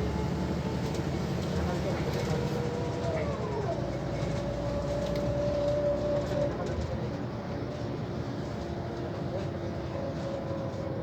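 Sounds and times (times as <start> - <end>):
bus drivetrain rumble: 0.0 - 11.0.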